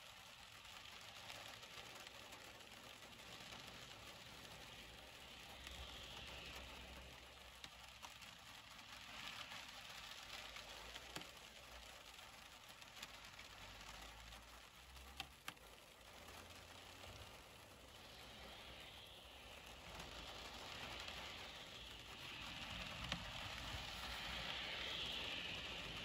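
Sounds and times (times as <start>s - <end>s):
faint steady rain: 0.0s - 26.0s.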